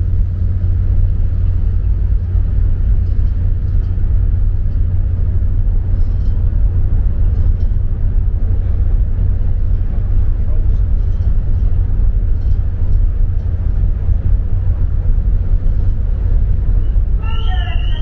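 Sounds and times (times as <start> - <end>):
deep engine rumble: 0.0 - 18.0.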